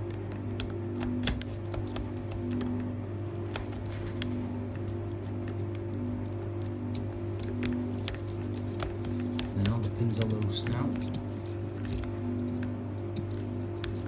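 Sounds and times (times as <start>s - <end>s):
lock pick clicking on pins: 0.0s - 14.0s.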